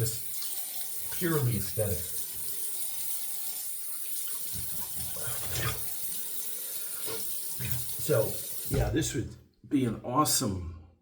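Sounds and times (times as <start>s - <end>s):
water tap running into sink: 0.0s - 9.0s.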